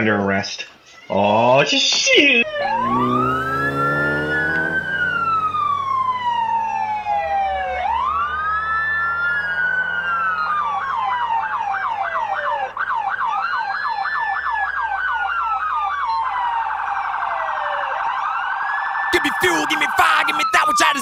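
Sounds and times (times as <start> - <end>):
police sirens wailing: 2.2 - 21.0
siren yelp: 2.2 - 21.0.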